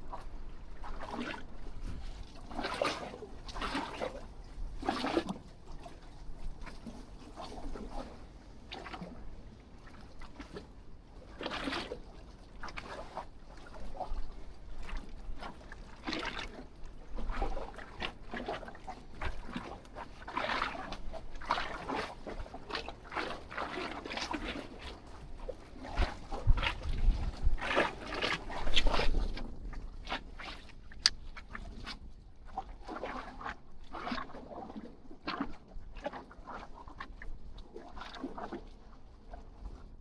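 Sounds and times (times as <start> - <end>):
water lapping against pilings: 0.0 - 40.0.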